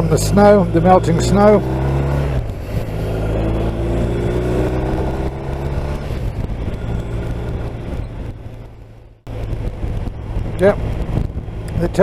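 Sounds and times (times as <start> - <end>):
motorcycle engine running: 0.0 - 12.0
road noise: 0.0 - 12.0
wind noise: 0.0 - 12.0.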